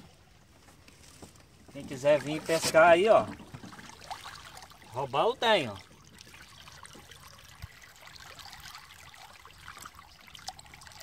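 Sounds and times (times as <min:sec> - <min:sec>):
river water lapping against hull: 0:01.7 - 0:11.0.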